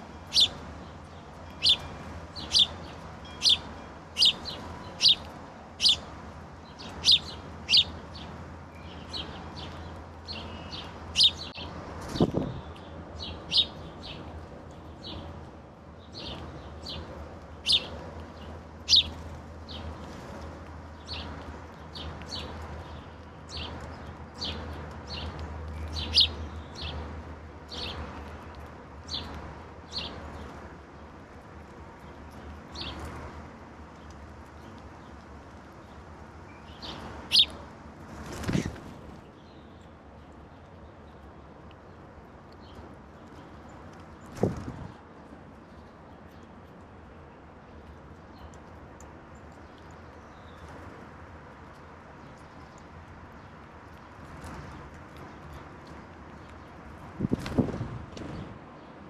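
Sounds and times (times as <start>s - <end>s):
songbirds chip notes: 0.0s - 57.5s.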